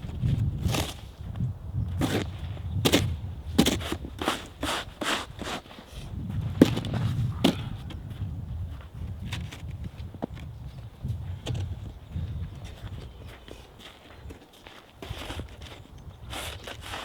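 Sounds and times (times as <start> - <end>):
footsteps crunching in snow: 2.0 - 17.0.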